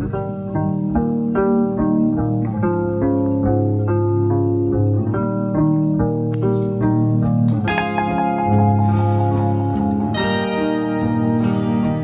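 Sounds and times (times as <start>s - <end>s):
plucked guitar-like music with beat: 0.0s - 12.0s.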